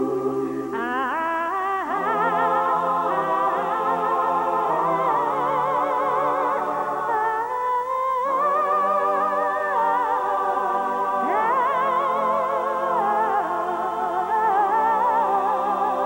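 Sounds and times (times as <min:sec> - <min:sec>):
sustained vibrato tones music: 0:00.0 - 0:16.0.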